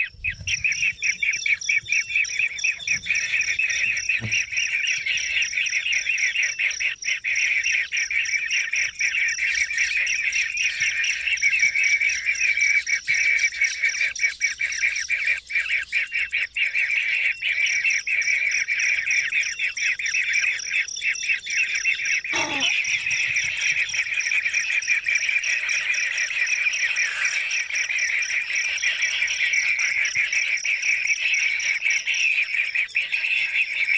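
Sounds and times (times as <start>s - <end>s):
bird chirps: 0.0s - 33.9s
insects chorus: 0.0s - 33.9s.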